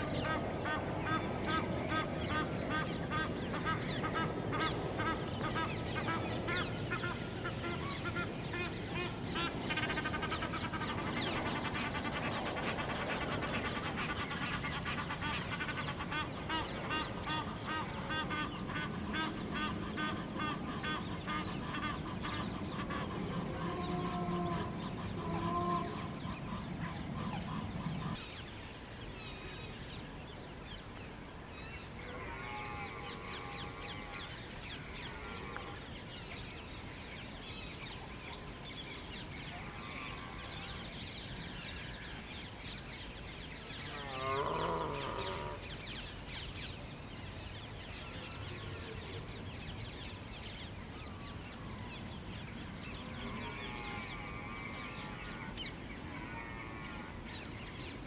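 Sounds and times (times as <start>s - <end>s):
harsh wavering bird calls: 0.0s - 30.1s, 31.6s - 46.9s, 52.8s - 58.0s
small birds chirping: 0.0s - 48.4s.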